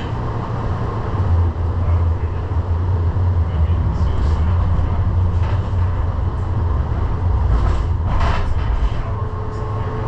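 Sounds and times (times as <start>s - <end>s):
train car rumbling: 0.0s - 10.0s.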